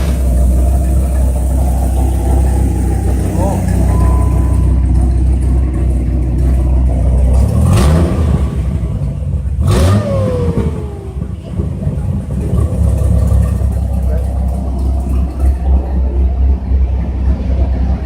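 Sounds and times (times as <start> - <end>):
engine low rumble: 0.0 - 18.0
vehicles passing by: 0.0 - 18.0.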